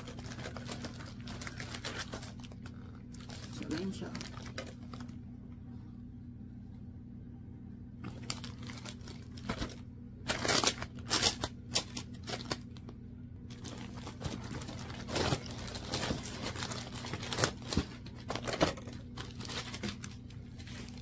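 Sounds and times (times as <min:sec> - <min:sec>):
plastic packaging crinkling: 0:00.0 - 0:05.2, 0:08.0 - 0:21.0.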